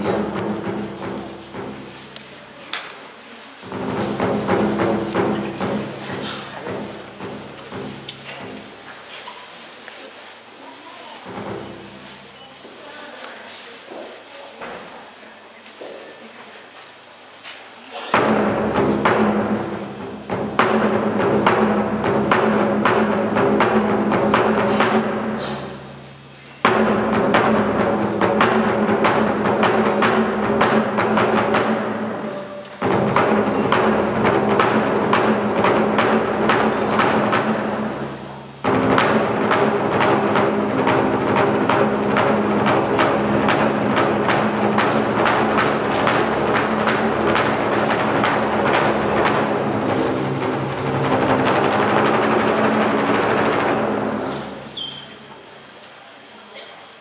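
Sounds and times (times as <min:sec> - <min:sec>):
barrel drum rolls: 0:00.0 - 0:02.5, 0:03.6 - 0:09.0, 0:11.2 - 0:12.4, 0:18.1 - 0:55.3.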